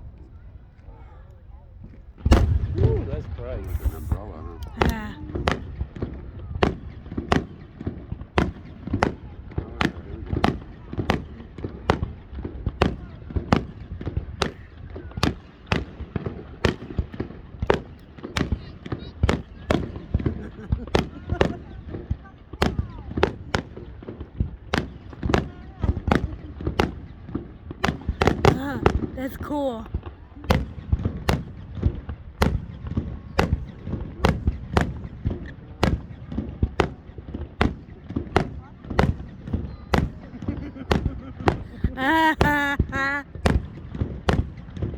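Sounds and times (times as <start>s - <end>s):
faint fireworks pops: 1.8s - 44.9s
fireworks bangs: 2.1s - 44.9s.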